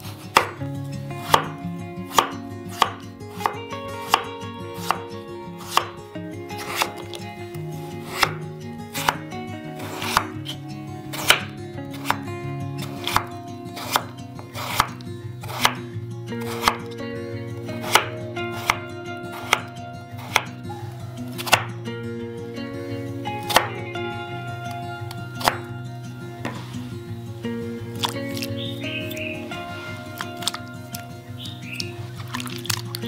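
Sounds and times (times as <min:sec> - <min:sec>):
soft background music: 0:00.0 - 0:33.0.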